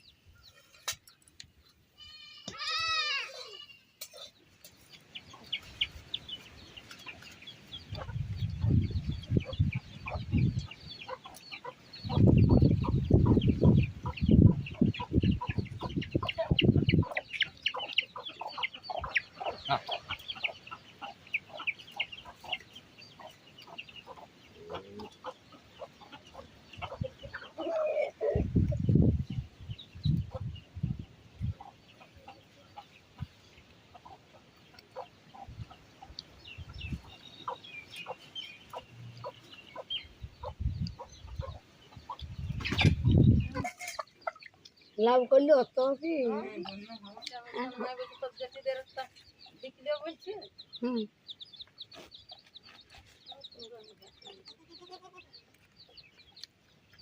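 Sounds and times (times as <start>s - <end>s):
chickens clucking: 3.5s - 57.0s.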